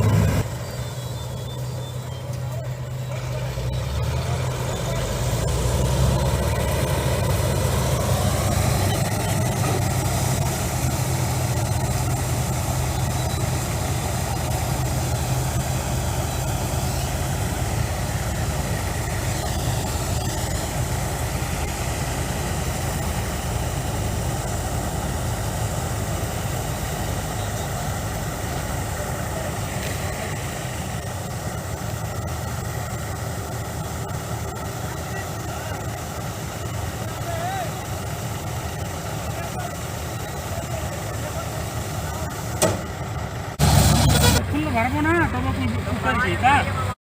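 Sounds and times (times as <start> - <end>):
diesel engine droning: 0.0 - 47.0.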